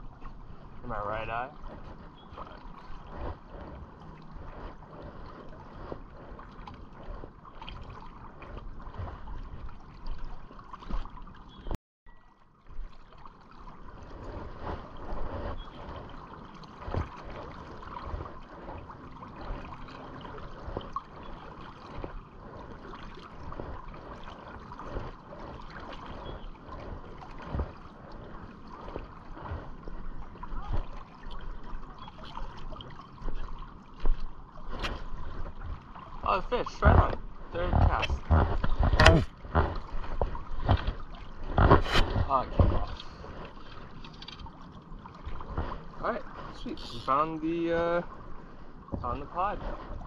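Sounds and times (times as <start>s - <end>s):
river water lapping and trickling: 0.0s - 50.0s
small water splashes: 0.0s - 50.0s.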